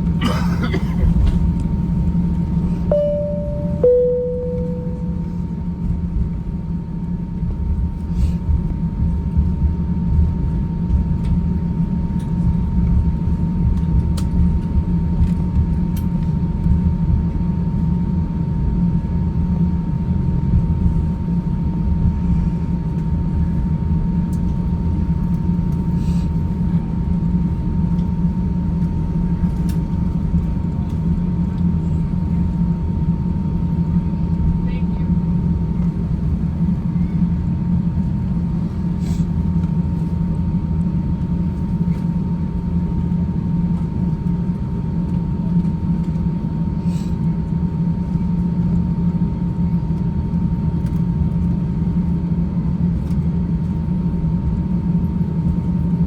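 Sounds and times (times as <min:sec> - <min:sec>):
aircraft cabin rumble and whine: 0:00.0 - 0:56.0.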